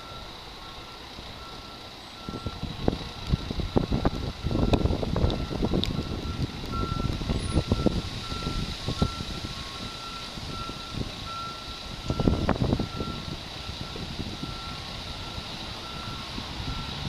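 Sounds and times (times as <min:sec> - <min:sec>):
backup alarm beeping: 0:00.0 - 0:02.6, 0:04.1 - 0:17.0.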